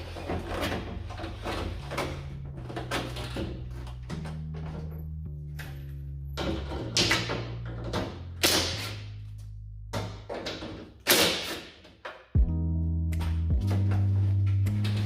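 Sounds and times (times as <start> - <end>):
background music with bass: 0.0 - 10.7, 12.4 - 15.0.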